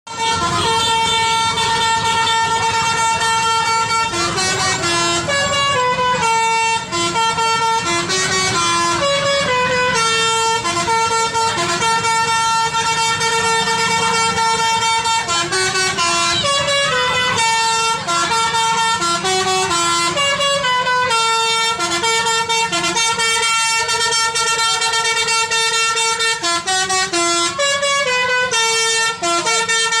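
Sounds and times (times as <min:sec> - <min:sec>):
musical air horn playing a tune: 0:00.1 - 0:30.0.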